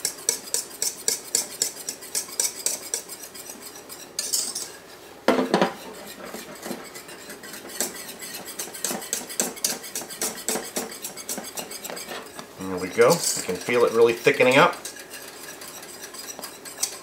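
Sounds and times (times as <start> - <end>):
whisk scraping saucepan: 0.0 - 17.0.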